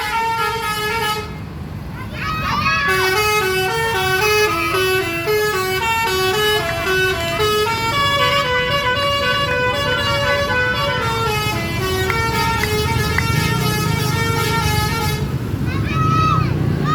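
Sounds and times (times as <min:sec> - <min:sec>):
multi-tone bus horn tune: 0:00.0 - 0:01.5, 0:02.8 - 0:15.4.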